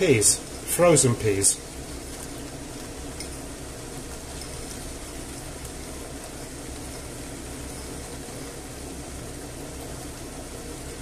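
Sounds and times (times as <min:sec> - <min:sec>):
rice simmering with hiss: 0:00.0 - 0:11.0.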